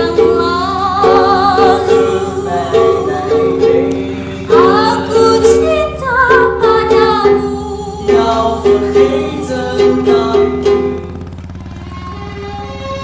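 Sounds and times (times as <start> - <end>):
voices singing in harmony: 0.0 - 11.4.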